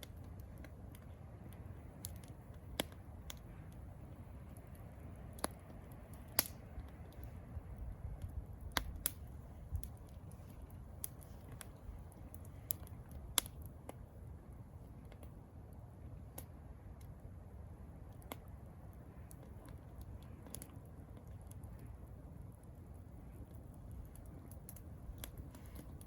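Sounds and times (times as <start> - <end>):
campfire crackling: 0.0 - 26.0
low steady rumble: 0.0 - 26.0.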